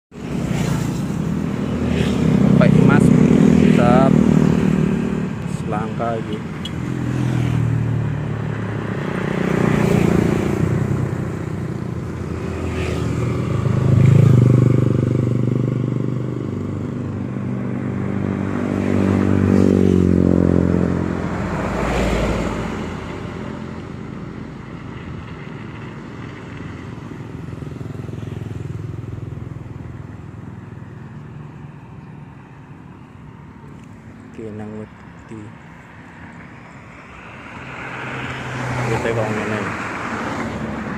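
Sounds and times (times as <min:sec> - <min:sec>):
motor vehicles passing: 0:00.1 - 0:40.9.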